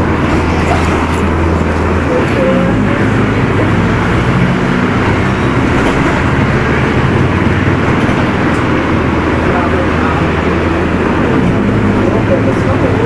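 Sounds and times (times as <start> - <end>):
bus diesel engine hum: 0.0 - 13.0
mechanical and road noise: 0.0 - 13.0.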